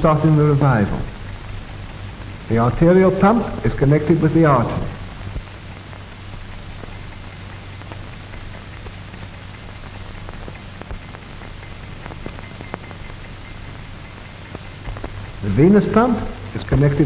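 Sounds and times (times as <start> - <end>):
crackles and clicks: 0.0 - 17.0
film soundtrack hiss: 0.0 - 17.0
low hum: 0.0 - 17.0.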